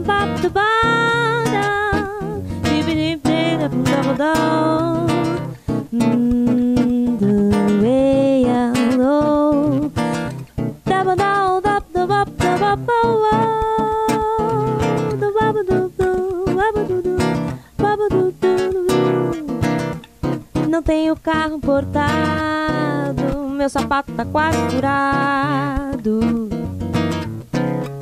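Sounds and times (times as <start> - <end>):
woman singing: 0.0 - 27.0
strummed acoustic guitar: 0.0 - 28.0.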